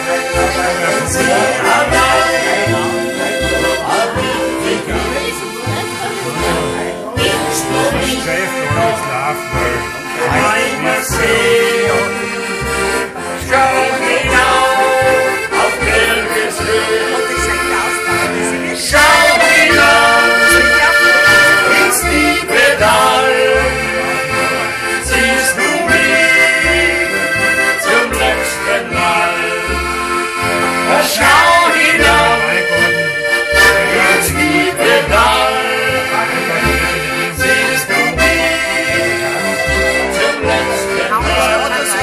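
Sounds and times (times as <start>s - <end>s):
bass instrument: 0.0s - 42.0s
button accordion playing: 0.0s - 42.0s
clarinet: 0.0s - 42.0s
steady low beat: 0.0s - 42.0s.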